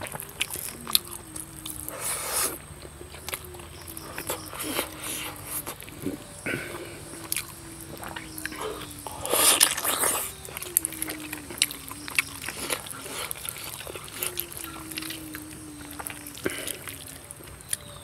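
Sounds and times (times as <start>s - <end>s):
wet chewing and lip smacks: 0.0s - 18.0s.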